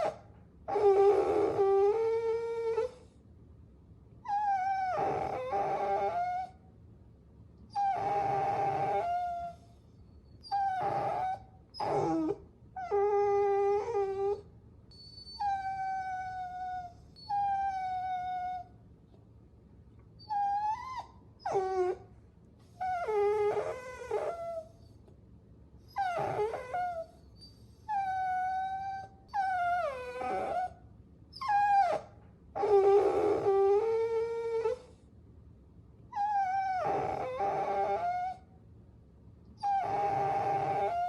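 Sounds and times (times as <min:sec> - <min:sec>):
puppy whining: 0:00.0 - 0:03.2, 0:04.2 - 0:06.6, 0:07.7 - 0:18.8, 0:20.2 - 0:25.2, 0:25.8 - 0:35.0, 0:36.1 - 0:38.6, 0:39.6 - 0:41.0.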